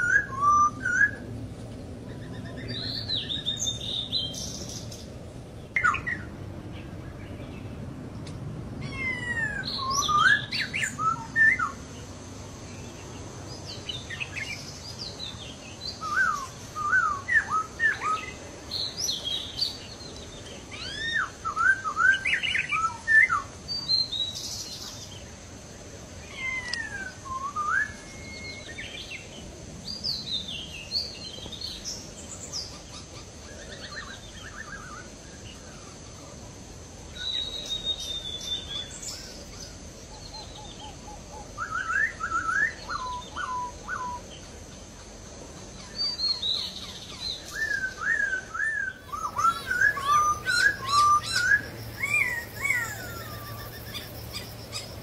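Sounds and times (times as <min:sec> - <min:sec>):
birds whistling and chirping: 0:00.0 - 0:01.3, 0:02.0 - 0:07.7, 0:08.8 - 0:11.8, 0:12.7 - 0:25.4, 0:26.2 - 0:36.3, 0:37.1 - 0:55.0.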